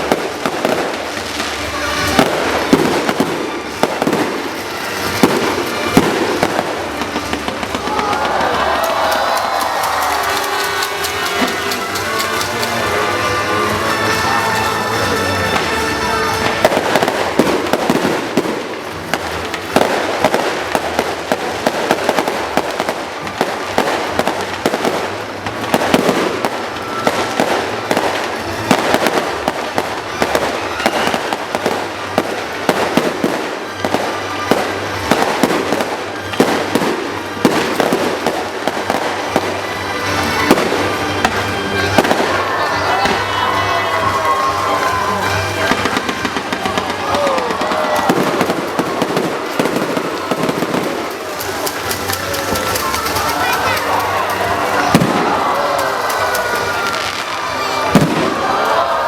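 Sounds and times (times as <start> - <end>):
fireworks bangs and crackling: 0.0 - 59.0
music playing: 0.0 - 59.0.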